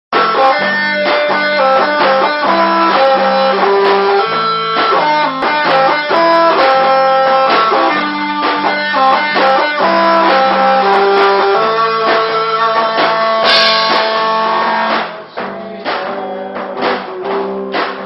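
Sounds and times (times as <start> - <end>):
electric guitar riff: 0.1 - 18.0.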